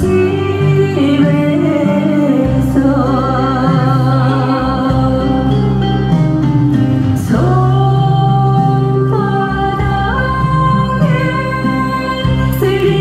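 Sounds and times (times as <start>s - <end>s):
instrumental accompaniment: 0.0s - 13.0s
woman singing into microphone: 0.0s - 13.0s.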